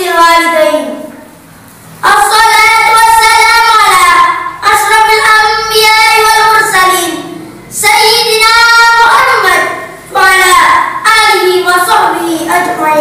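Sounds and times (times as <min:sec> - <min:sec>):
boy chanting: 0:02.0 - 0:13.0.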